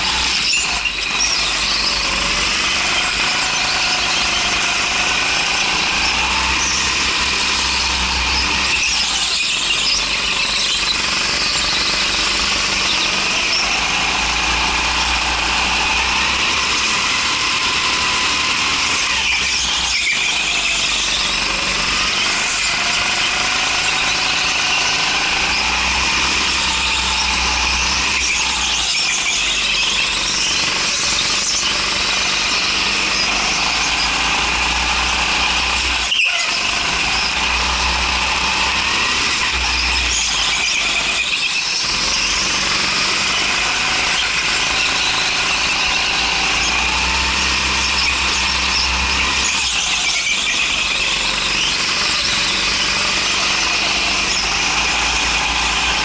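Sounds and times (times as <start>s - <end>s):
go-kart engine running: 0.0s - 56.0s
tyres squealing: 0.0s - 56.0s.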